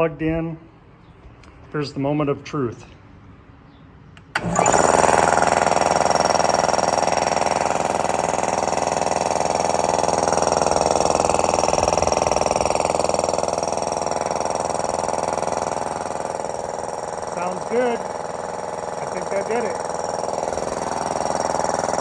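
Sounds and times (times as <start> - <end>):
electric air compressor running: 4.4 - 22.0.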